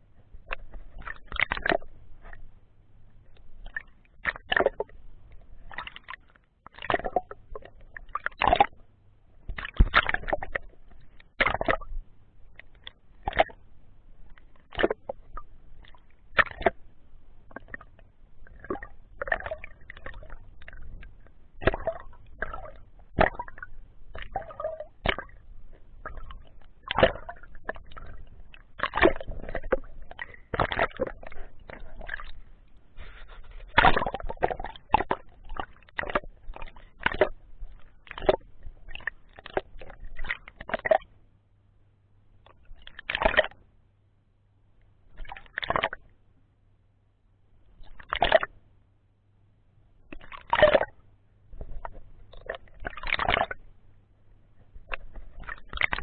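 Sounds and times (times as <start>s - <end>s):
muffled water sloshing and splashing: 0.0s - 46.5s, 47.4s - 48.8s, 49.6s - 56.0s.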